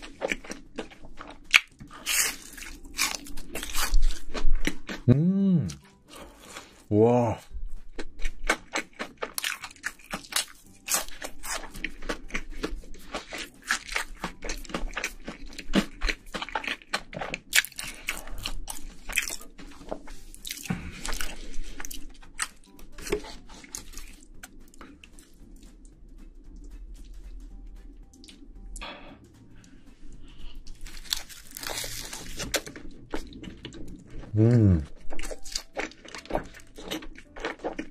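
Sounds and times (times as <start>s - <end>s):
person chewing crunchy food: 0.0s - 37.9s.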